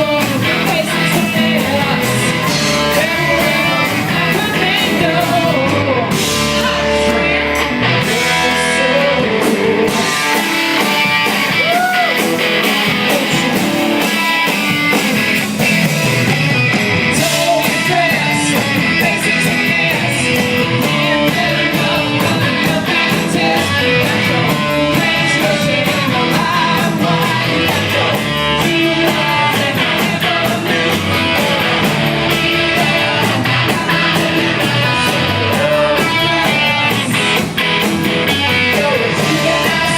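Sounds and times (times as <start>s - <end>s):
drum beat: 0.0s - 6.7s, 9.3s - 39.9s
person singing: 0.0s - 14.7s, 16.0s - 39.9s
electric guitar: 0.0s - 39.9s
rock band playing: 0.0s - 39.9s.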